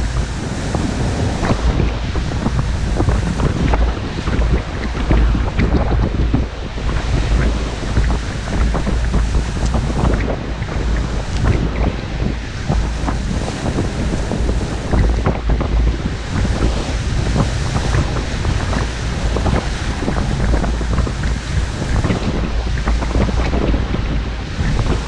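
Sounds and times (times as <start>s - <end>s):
waves splashing on shore: 0.0s - 25.0s
wind buffeting microphone: 0.0s - 25.0s.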